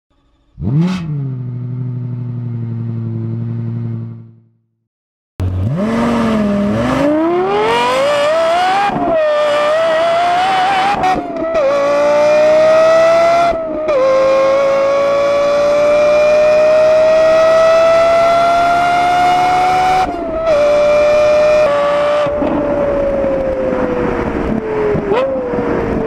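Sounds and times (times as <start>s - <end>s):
car engine revving through gears: 0.2s - 4.2s, 5.4s - 26.0s.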